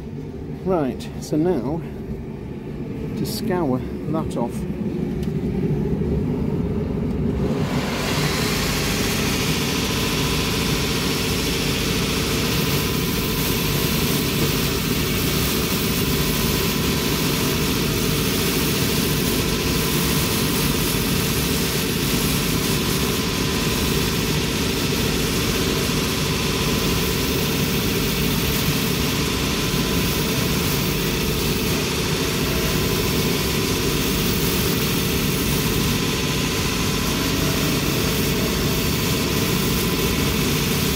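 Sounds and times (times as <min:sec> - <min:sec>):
sanding machine humming: 0:07.4 - 0:40.9.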